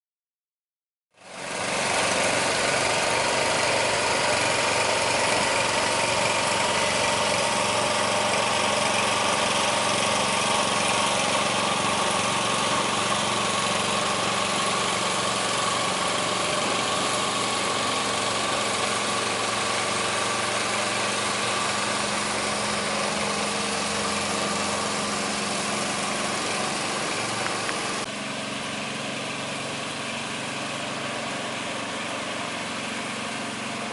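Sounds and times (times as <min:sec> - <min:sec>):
construction machinery engine running: 0:01.2 - 0:33.9.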